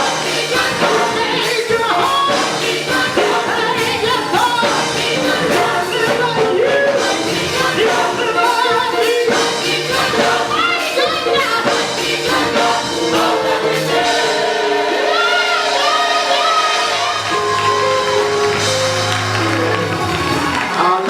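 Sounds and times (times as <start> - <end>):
gospel choir singing: 0.0 - 20.7.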